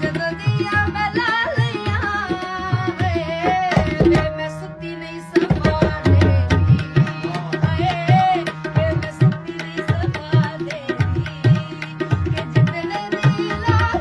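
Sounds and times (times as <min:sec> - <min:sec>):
tabla drumming: 0:00.0 - 0:14.0.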